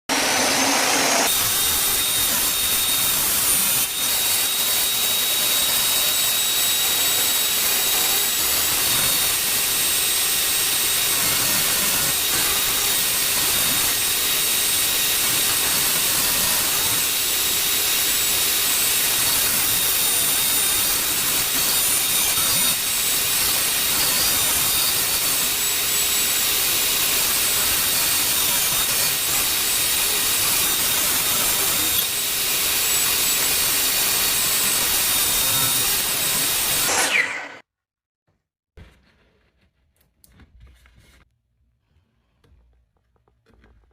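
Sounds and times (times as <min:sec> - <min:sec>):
power tool motor whine: 0:00.1 - 0:37.6
wood being cut hiss: 0:00.4 - 0:37.6.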